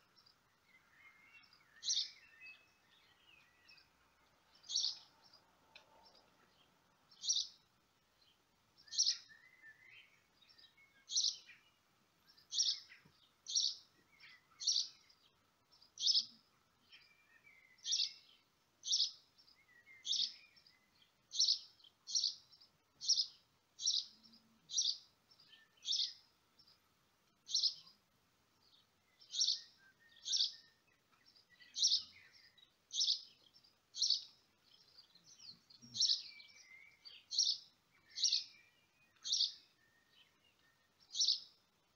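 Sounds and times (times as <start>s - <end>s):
small bird chirping: 0.0s - 41.9s.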